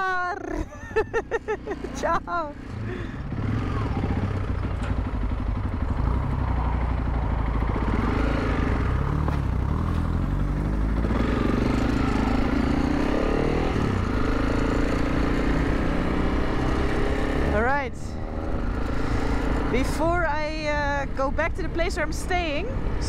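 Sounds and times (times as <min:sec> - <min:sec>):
motorcycle engine revving: 0:01.4 - 0:23.0.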